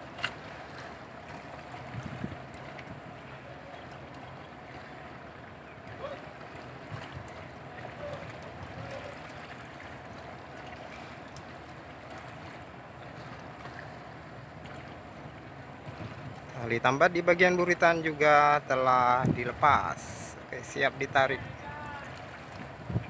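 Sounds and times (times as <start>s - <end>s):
water: 0.0s - 23.0s
wind: 0.0s - 23.0s.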